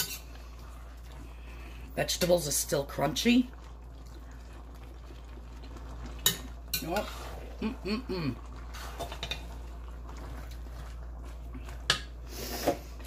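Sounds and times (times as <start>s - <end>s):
spoon stirring and scraping pot: 0.0s - 7.7s, 8.4s - 13.0s.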